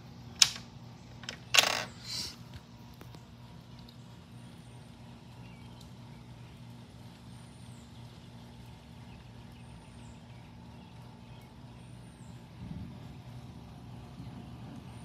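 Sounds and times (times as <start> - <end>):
low hum: 0.0 - 15.0
outdoor background hiss: 0.0 - 15.0.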